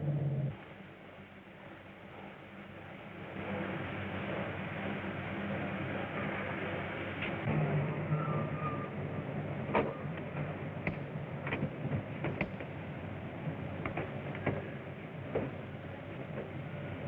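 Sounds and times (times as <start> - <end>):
film soundtrack hum and hiss: 0.0 - 17.0.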